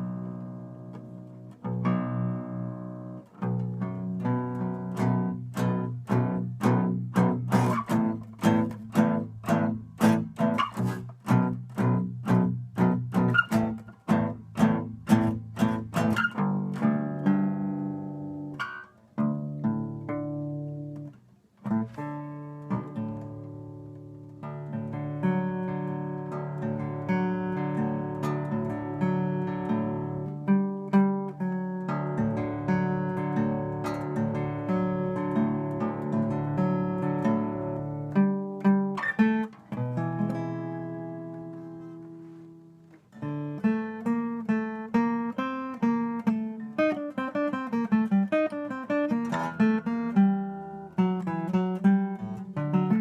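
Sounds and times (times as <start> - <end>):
guitar strumming and picking: 0.0 - 53.0.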